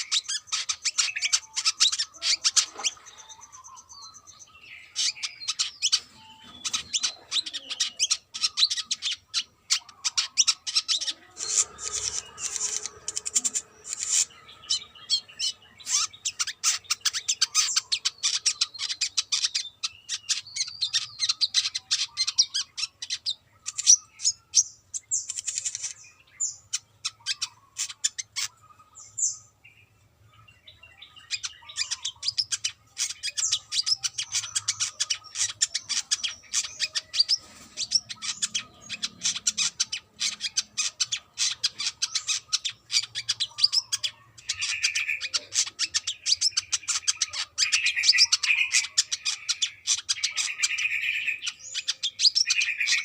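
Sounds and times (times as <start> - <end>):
bird singing high chips and twitters: 0.0 - 53.0
low buzzy bird trill: 0.0 - 53.0.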